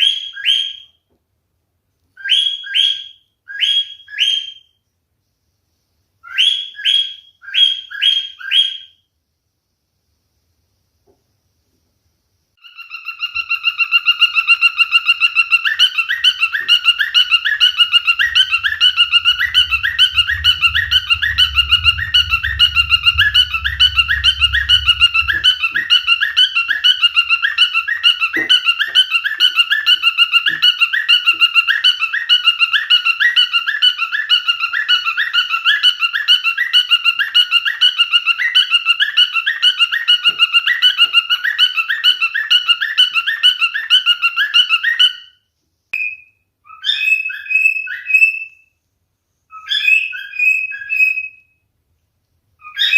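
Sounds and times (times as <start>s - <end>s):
cockatiel whistled warble: 0.0s - 1.0s, 2.2s - 4.8s, 6.2s - 9.0s, 12.7s - 45.4s, 46.0s - 48.7s, 49.5s - 51.6s, 52.6s - 52.9s.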